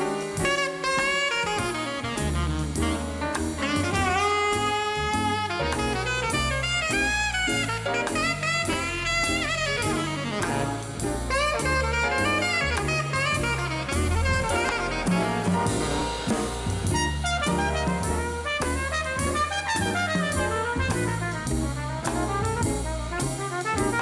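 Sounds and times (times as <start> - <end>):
alto saxophone solo: 0.0 - 24.0
bass: 0.0 - 24.0
drum kit: 0.0 - 24.0.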